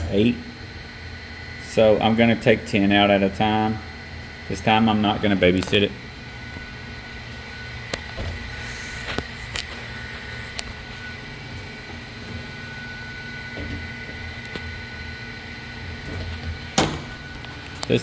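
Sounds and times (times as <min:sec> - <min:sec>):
shop machinery hum: 0:00.0 - 0:18.0.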